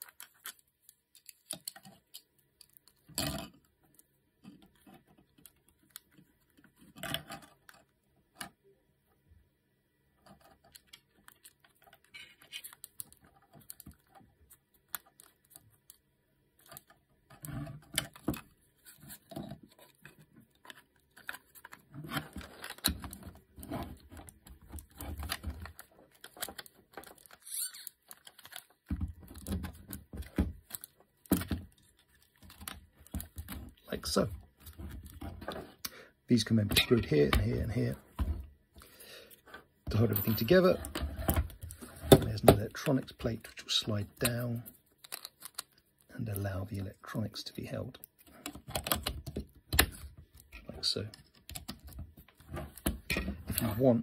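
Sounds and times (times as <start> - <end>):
plastic parts clicking and knocking: 0.0 - 8.6, 10.2 - 35.9, 36.6 - 46.5, 47.7 - 54.0.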